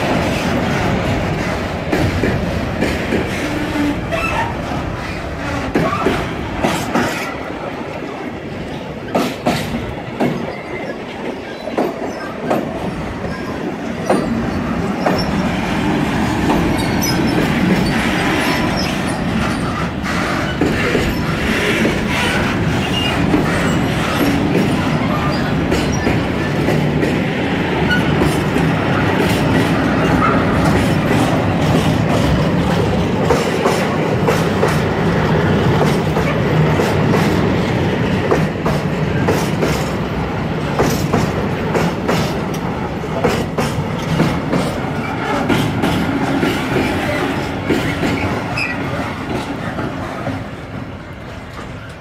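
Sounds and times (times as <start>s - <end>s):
train wagons rumbling: 0.0s - 52.0s
wheels clacking over rail joints: 0.0s - 52.0s.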